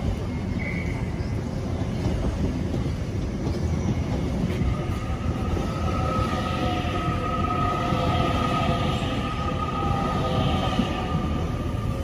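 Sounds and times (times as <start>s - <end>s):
electric train rumbling past: 0.0s - 12.0s.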